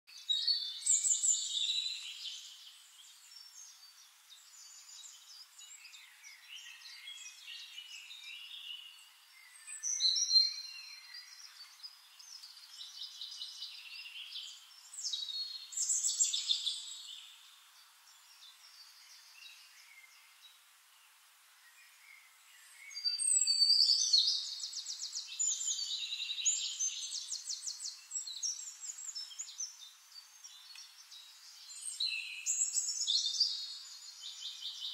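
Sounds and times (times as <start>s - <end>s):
birds chirping and trilling: 0.1s - 34.9s.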